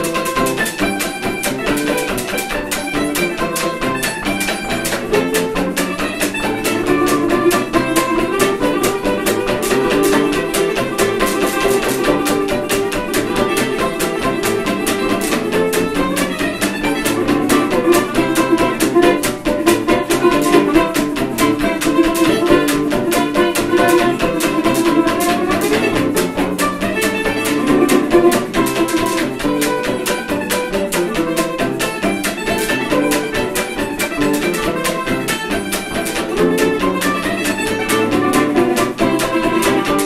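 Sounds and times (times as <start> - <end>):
jug band playing a rag: 0.0 - 40.0
strummed banjo guitar and mandolin: 0.0 - 40.0.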